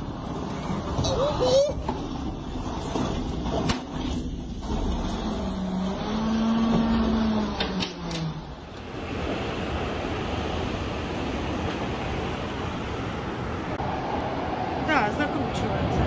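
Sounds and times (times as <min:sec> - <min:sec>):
wind howling past a window: 0:00.0 - 0:16.0.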